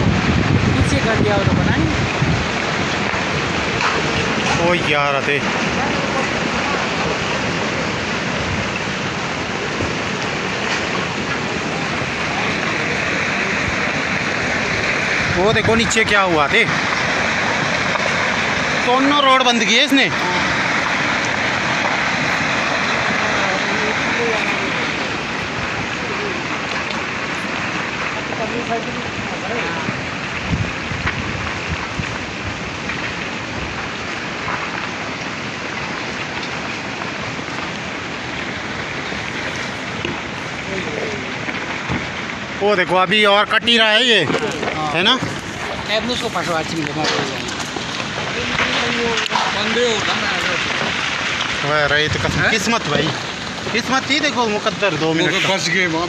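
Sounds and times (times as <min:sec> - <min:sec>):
rockfall rushing rumble: 0:00.0 - 0:56.0.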